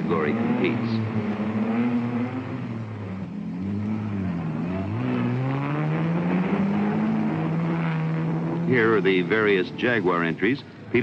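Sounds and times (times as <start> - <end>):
racing car engines accelerating: 0.0 - 11.0.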